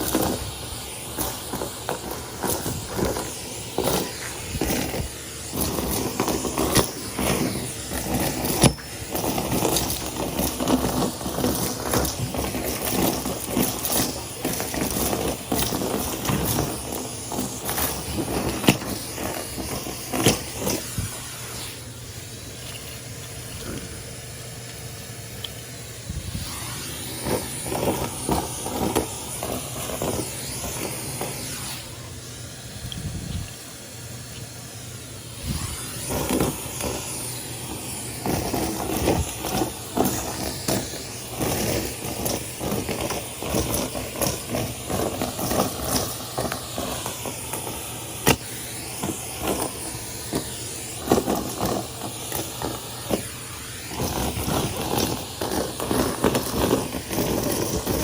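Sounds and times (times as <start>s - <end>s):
debris crackling up hose: 0.0s - 58.0s
vacuum cleaner running: 0.0s - 58.0s.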